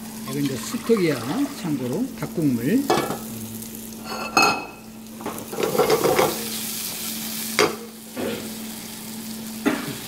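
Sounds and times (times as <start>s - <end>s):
onion frying in oil: 0.0s - 10.0s.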